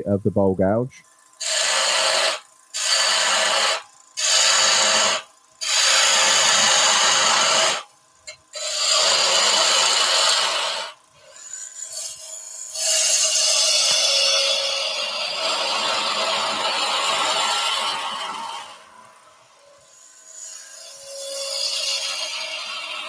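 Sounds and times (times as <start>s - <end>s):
gouge cutting wood on a lathe: 1.4s - 7.9s, 8.5s - 23.0s.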